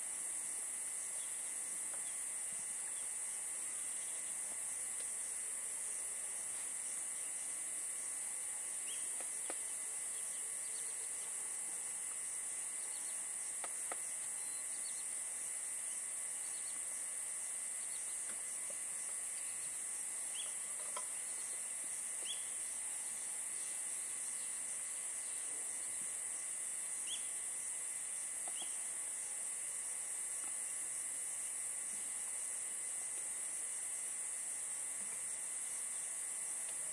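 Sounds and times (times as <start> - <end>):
insects chorus: 0.0 - 36.9.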